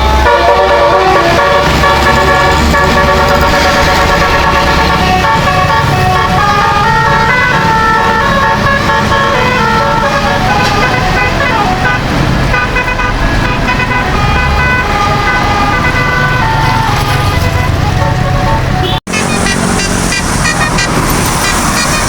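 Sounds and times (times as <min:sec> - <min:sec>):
musical air horn tune: 0:00.0 - 0:22.0.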